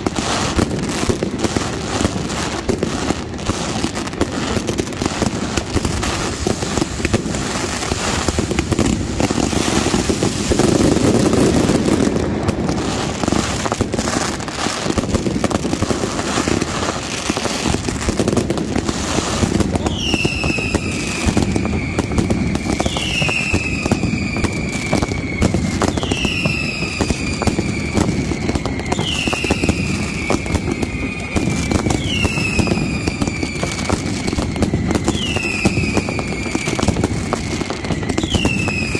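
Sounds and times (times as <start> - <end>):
fireworks crackling and banging: 0.0 - 38.9
whistling fireworks falling in pitch: 0.0 - 38.9.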